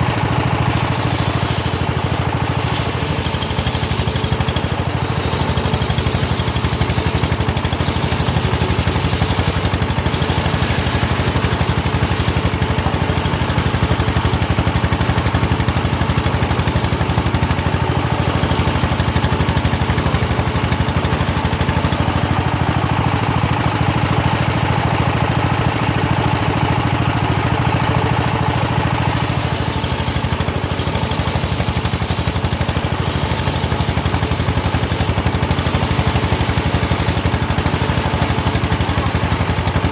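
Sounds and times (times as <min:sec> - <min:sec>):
saw blade cutting wood: 0:00.0 - 0:22.3, 0:27.8 - 0:39.9
sawmill engine running: 0:00.0 - 0:39.9.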